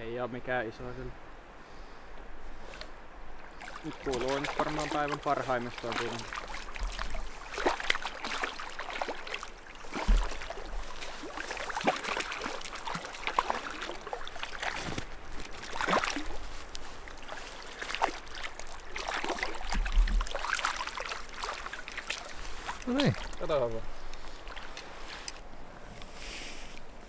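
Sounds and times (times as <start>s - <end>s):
fish splashing at water surface: 3.4s - 25.4s.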